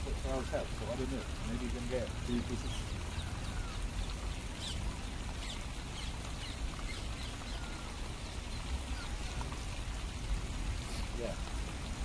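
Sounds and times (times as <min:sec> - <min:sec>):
birds chirping: 0:00.2 - 0:09.9.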